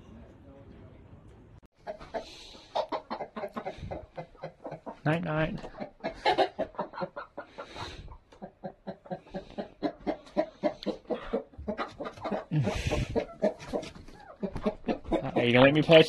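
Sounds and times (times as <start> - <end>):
hens clucking: 1.8 - 16.0.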